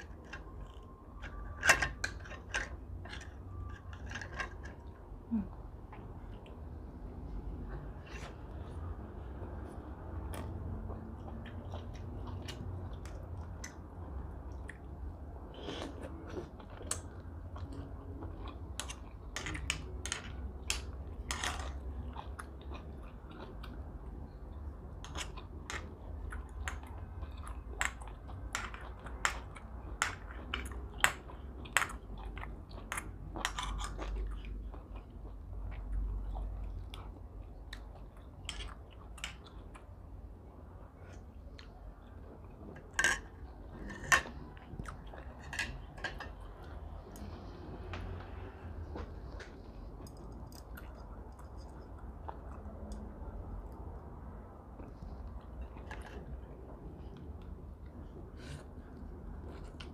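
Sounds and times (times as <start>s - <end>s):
close chewing and mouth sounds: 0.0s - 59.9s
low steady hum: 0.0s - 59.9s.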